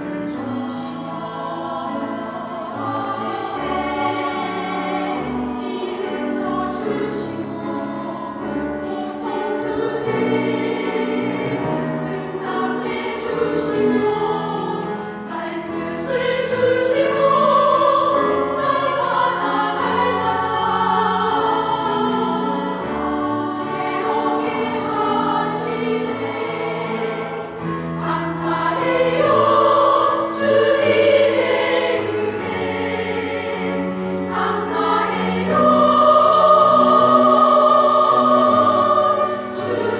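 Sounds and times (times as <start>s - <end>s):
vocal ensemble singing gospel: 0.0s - 39.9s.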